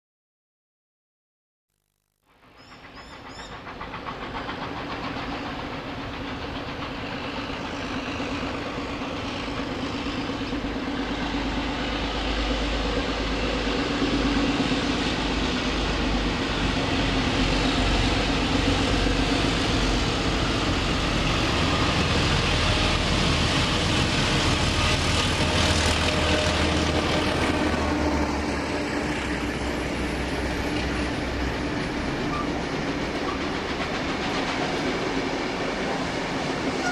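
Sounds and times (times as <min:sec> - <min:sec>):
steam train rumbling: 0:02.3 - 0:36.9.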